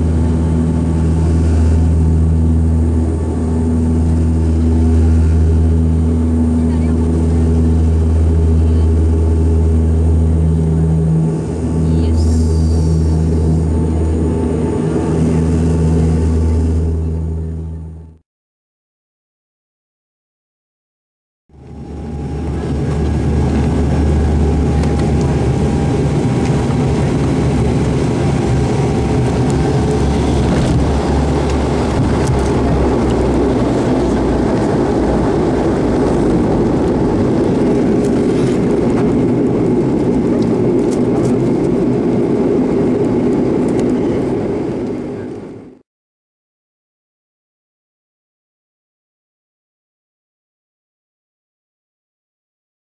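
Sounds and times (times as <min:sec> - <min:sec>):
airliner engines rumbling: 0:00.0 - 0:18.2, 0:21.5 - 0:45.8.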